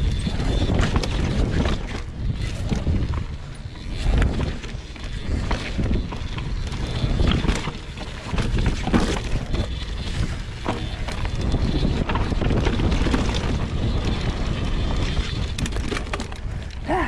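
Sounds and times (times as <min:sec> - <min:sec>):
tyres rumbling on dirt: 0:00.0 - 0:16.5
bike clicks and rattles: 0:00.0 - 0:17.0
wind buffeting microphone: 0:00.0 - 0:17.0.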